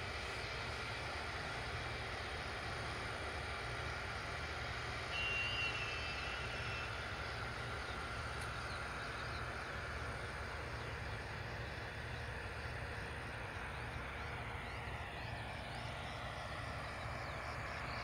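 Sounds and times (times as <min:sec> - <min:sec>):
distant combine harvesters: 0:00.0 - 0:18.0.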